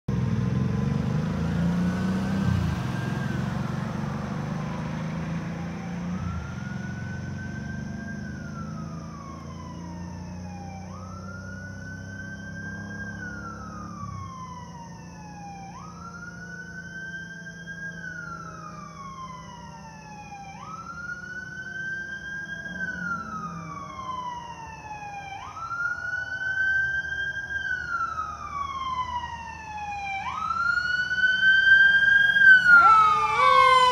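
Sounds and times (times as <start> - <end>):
fire engine siren wailing: 0.2 - 33.9.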